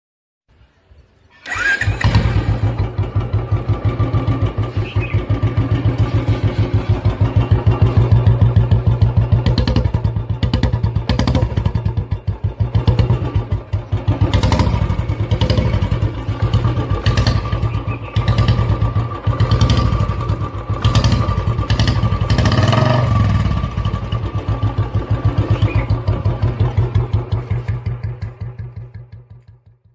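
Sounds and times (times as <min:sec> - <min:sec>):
motorcycle engine revving: 0:01.4 - 0:29.9.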